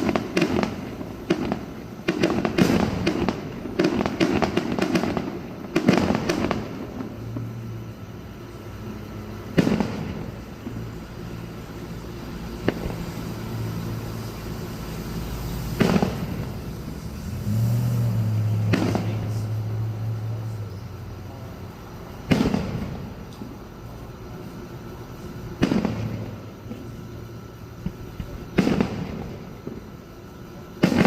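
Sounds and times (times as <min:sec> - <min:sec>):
steady low hum: 0:00.0 - 0:30.9
fireworks bangs and crackles: 0:00.0 - 0:31.0.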